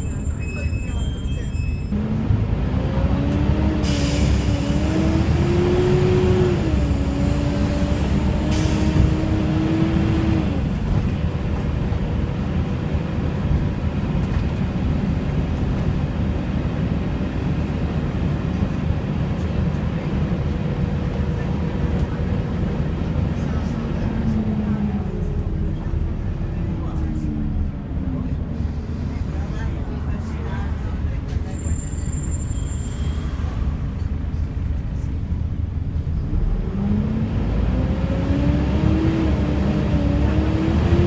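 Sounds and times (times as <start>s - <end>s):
bus engine rumble: 0.0s - 41.0s.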